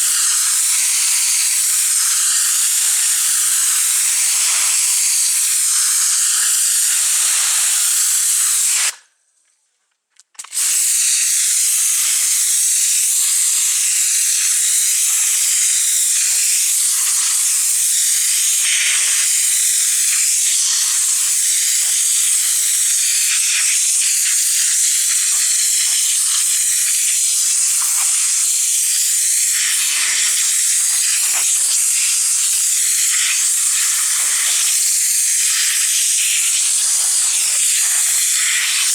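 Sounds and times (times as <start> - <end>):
pressure washer jet hissing: 0.0 - 9.0, 10.6 - 38.9.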